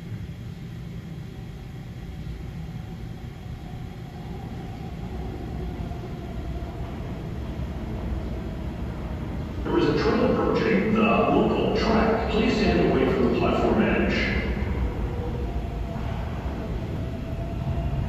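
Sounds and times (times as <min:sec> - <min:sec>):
faint steady whine: 0:00.0 - 0:18.0
subway train rumble in tunnel: 0:00.0 - 0:18.0.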